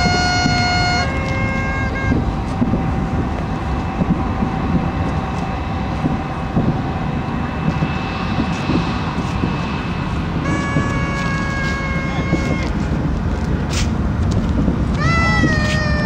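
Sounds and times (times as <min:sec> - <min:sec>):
horns sounding: 0:00.0 - 0:13.9, 0:14.8 - 0:16.0
distant fireworks booming: 0:00.0 - 0:16.0.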